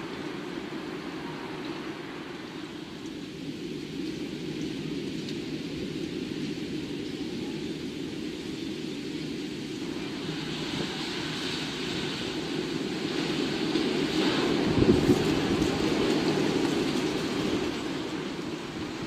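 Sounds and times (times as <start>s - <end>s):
low rumble of wind: 0.0s - 19.0s
rain hiss: 0.0s - 19.0s.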